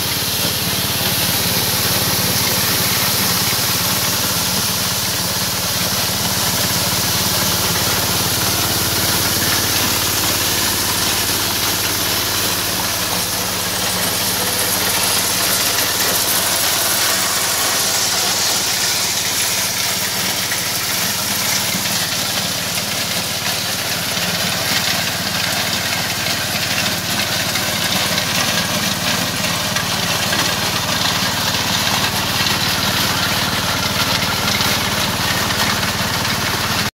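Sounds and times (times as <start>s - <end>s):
diesel engine running: 0.0s - 36.9s
thresher drum and fan hiss: 0.0s - 36.9s.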